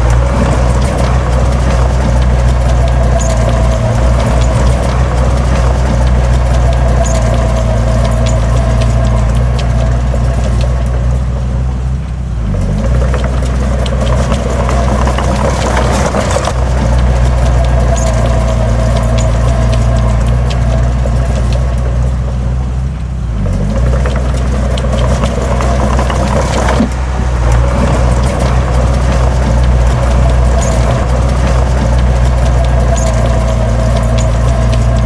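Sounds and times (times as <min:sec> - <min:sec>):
diesel engine running hard: 0:00.0 - 0:35.0
machine clanking and rattling: 0:00.0 - 0:35.0.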